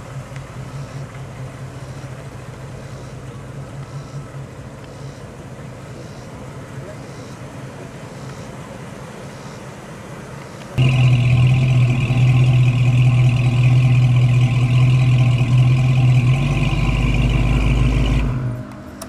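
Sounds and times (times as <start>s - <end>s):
car engine running: 0.0s - 9.6s, 10.7s - 19.0s.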